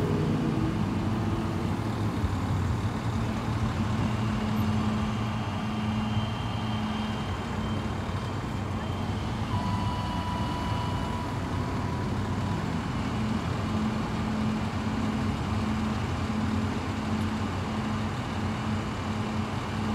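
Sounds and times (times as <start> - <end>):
pulsing low hum: 0.0 - 16.0
truck diesel engine running: 0.0 - 19.9
vehicles passing: 0.0 - 19.9.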